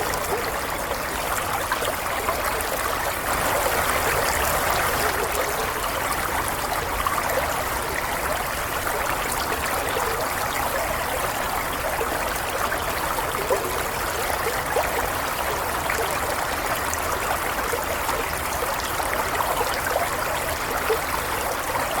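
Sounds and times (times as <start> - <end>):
stream babbling and trickling: 0.0 - 22.0.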